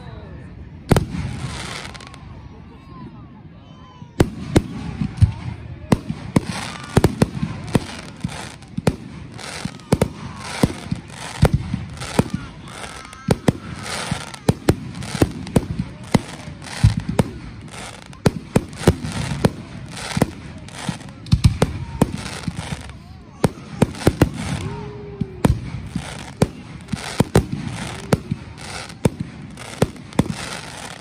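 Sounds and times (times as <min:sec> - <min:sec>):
fireworks bangs: 0:00.9 - 0:02.2, 0:04.1 - 0:31.0
fireworks crackling: 0:00.9 - 0:02.3, 0:04.2 - 0:31.0.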